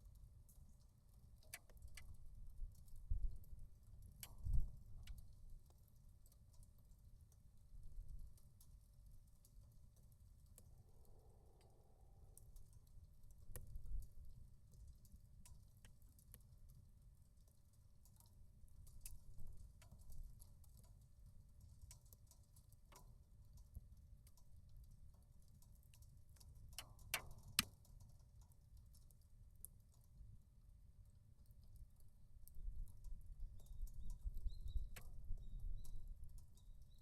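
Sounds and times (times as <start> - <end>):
wood fire crackling: 0.0 - 30.2.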